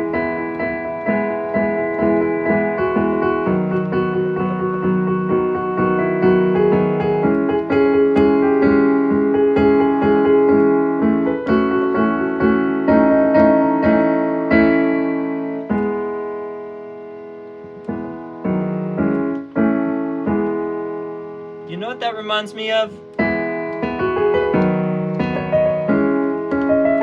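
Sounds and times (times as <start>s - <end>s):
piano chords: 0.0s - 27.0s.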